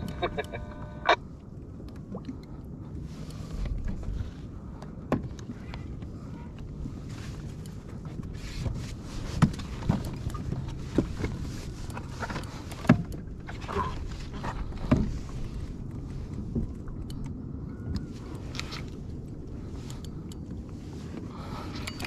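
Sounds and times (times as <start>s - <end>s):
water sloshing against hull: 0.0s - 22.0s.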